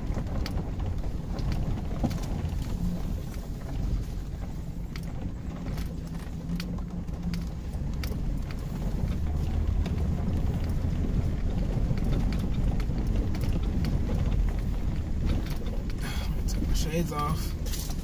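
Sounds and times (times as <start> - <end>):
body knocks and rattles: 0.0 - 18.0
engine and tyres rumbling: 0.0 - 18.0.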